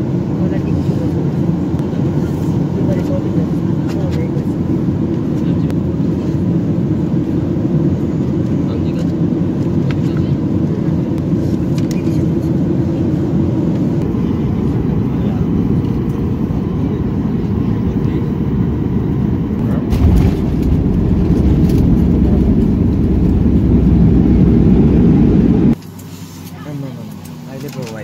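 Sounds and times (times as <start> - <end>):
moving vehicle rumble: 0.0 - 28.0.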